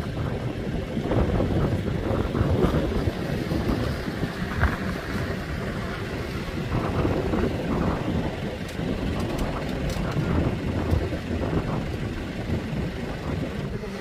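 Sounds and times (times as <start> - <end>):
off-road vehicle driving: 0.0 - 14.0
wind buffeting microphone: 0.0 - 14.0.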